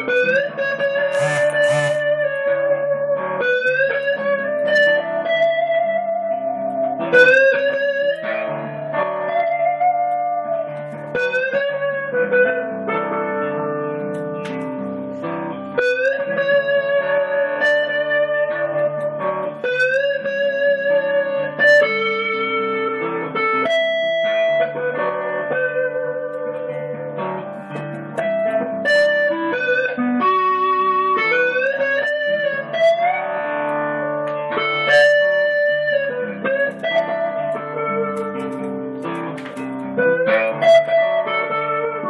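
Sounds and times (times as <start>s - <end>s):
electric guitar blues lead: 0.0s - 42.0s
looped rhythm guitar: 0.0s - 42.0s.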